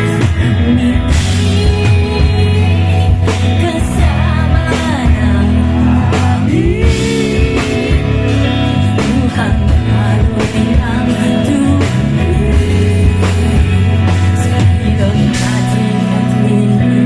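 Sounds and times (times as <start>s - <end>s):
live band playing pop-rock: 0.0s - 17.0s
person singing: 0.0s - 17.0s.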